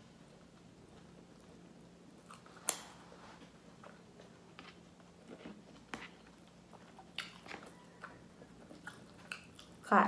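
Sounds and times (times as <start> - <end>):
person chewing a sandwich: 0.3 - 9.8.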